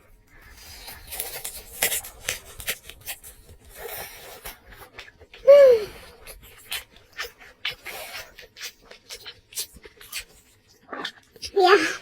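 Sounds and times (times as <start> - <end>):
food crinkling and crackling: 0.0 - 12.0.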